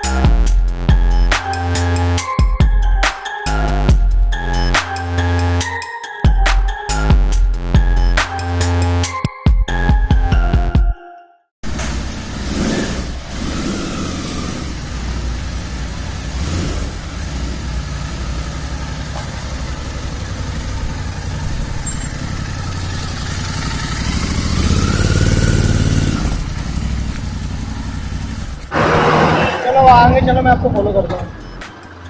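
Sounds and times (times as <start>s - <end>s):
motorcycle engine idling and revving: 0.0s - 10.7s, 11.6s - 32.0s.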